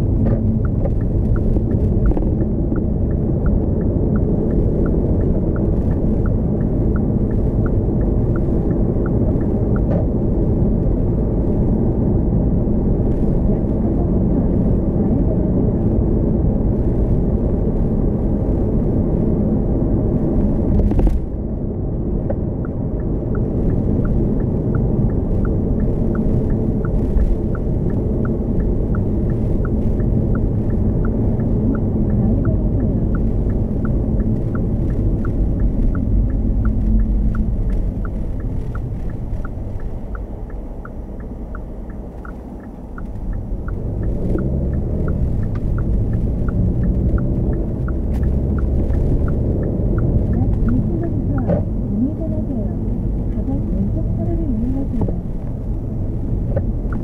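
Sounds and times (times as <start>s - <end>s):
road and tyre rumble: 0.0s - 57.0s
turn signal ticking: 0.0s - 57.0s.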